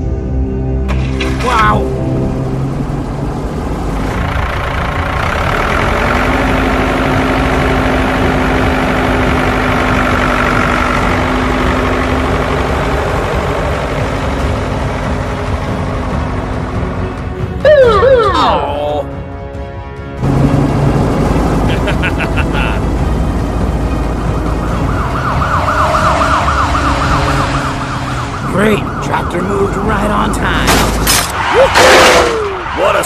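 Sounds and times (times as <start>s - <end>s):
heavy vehicle engine running: 0.0s - 29.1s.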